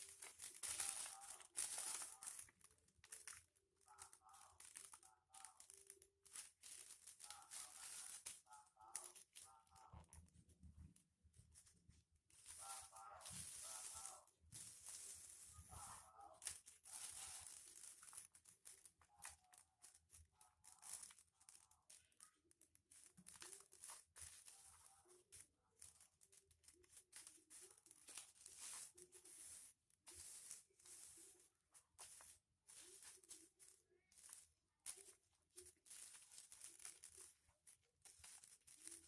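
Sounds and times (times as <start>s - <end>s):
foil paper crinkling: 0.0s - 39.0s.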